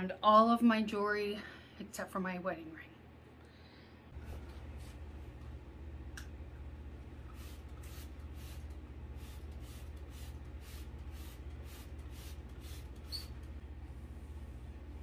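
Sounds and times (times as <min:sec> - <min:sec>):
steady low hum: 0:00.9 - 0:15.0.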